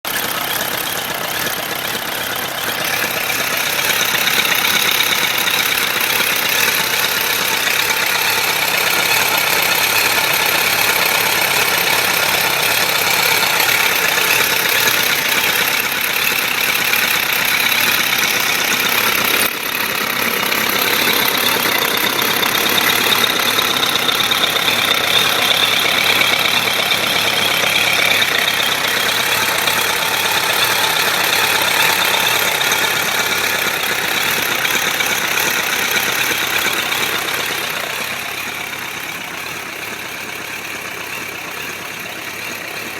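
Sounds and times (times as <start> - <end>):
motorcycle engine knocking: 0.0 - 42.9.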